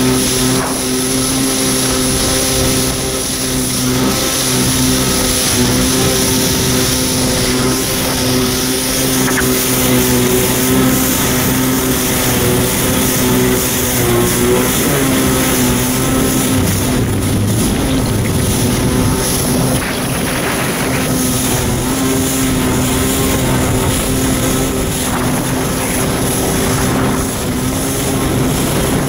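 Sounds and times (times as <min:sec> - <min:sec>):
jet ski engine running: 0:00.0 - 0:29.0.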